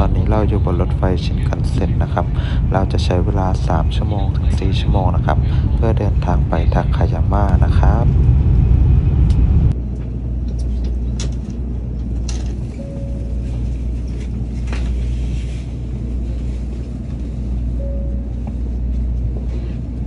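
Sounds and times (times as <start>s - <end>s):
train humming at platform: 0.0s - 20.0s
train running rumble: 0.0s - 20.0s.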